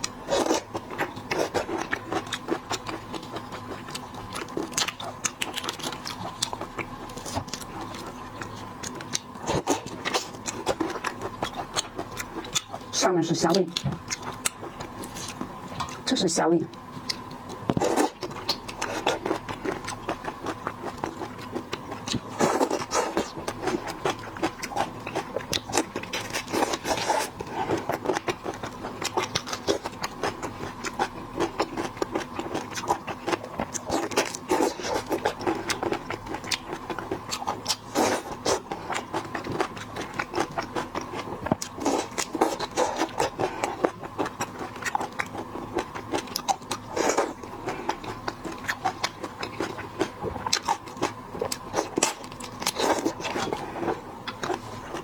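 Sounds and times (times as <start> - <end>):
eating shrimp with crackling shells: 0.0 - 55.0.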